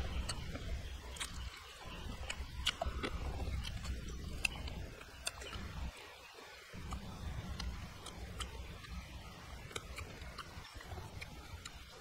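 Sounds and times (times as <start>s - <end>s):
person chewing crunchy food: 0.0s - 5.9s, 6.8s - 9.0s, 9.6s - 12.0s.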